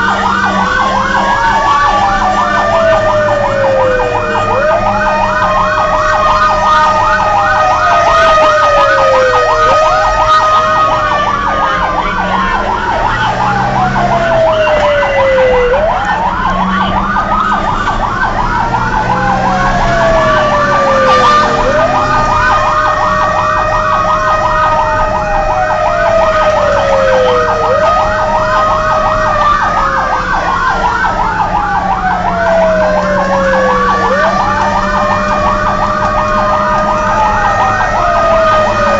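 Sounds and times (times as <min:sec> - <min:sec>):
fire engine siren wail: 0:00.0 - 0:38.9
rapid siren yelp: 0:00.0 - 0:38.9
steady siren tone: 0:00.0 - 0:38.9
truck engine running: 0:00.0 - 0:38.9.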